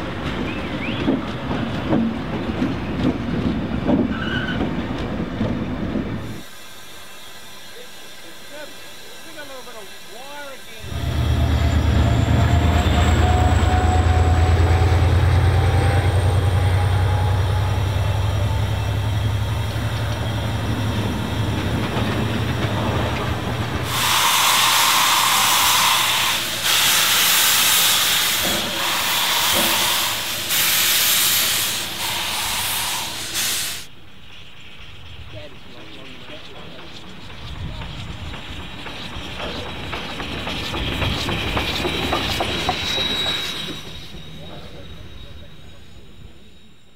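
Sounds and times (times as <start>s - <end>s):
electric train rumbling past: 0.0s - 46.9s
steam locomotive hissing: 3.6s - 46.9s.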